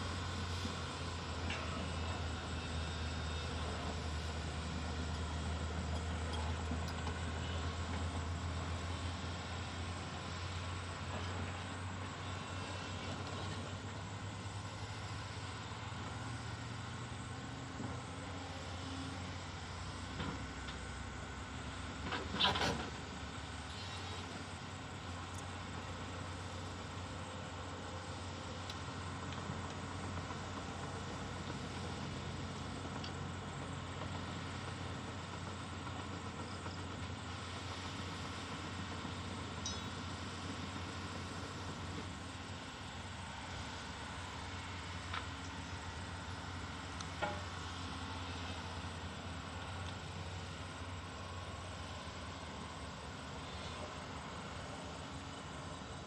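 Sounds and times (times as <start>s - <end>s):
excavator diesel engine hum: 0.0s - 56.0s.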